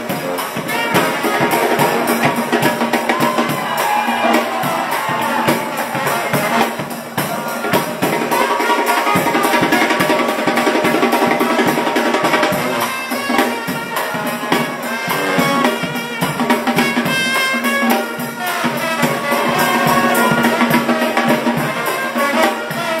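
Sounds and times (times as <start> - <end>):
steady drum beat: 0.0 - 23.0
trombone: 0.0 - 23.0
trumpets: 0.0 - 23.0.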